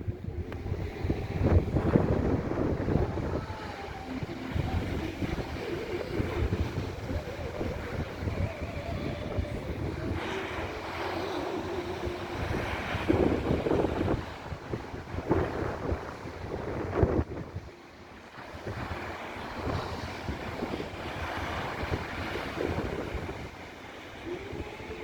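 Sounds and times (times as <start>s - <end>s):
sea waves breaking on shore: 0.0s - 25.0s
wind buffeting microphone: 0.0s - 25.0s.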